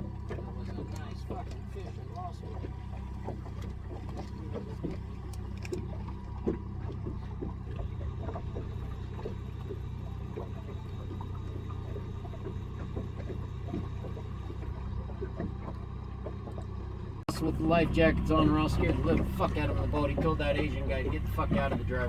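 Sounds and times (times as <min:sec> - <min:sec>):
boat motor running: 0:00.0 - 0:22.0
small water splashes: 0:00.0 - 0:22.0.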